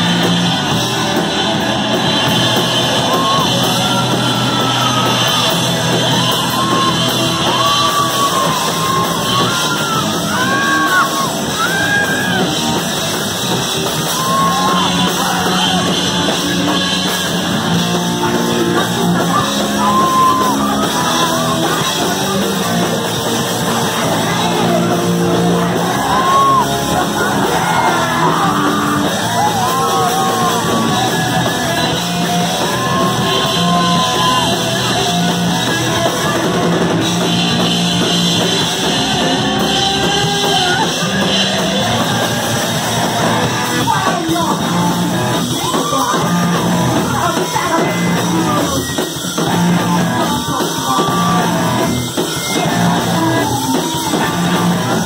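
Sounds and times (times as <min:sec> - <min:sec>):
live punk rock band: 0:00.0 - 0:55.0
singer shouting and singing: 0:02.2 - 0:55.0.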